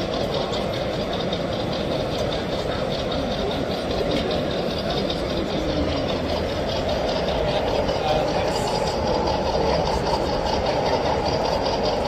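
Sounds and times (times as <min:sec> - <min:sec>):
murmur of many voices: 0:00.0 - 0:12.0.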